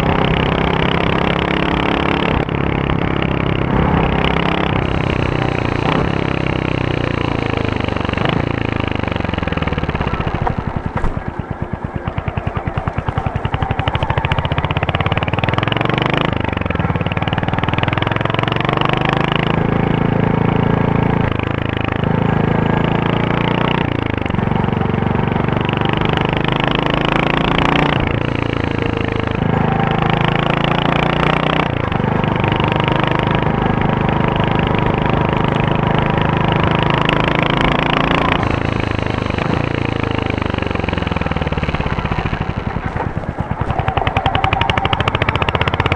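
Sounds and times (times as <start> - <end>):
motorcycle engine thumping and revving: 0.0 - 45.9.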